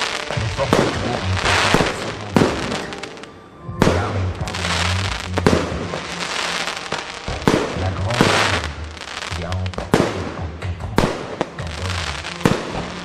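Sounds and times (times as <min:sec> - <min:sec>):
firework shells bursting: 0:00.0 - 0:13.0
hiss and crackle of fireworks: 0:00.0 - 0:13.0.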